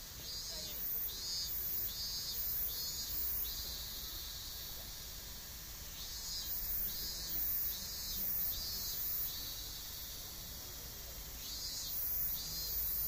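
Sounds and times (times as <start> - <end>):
insects pulsing calls: 0.0 - 13.0.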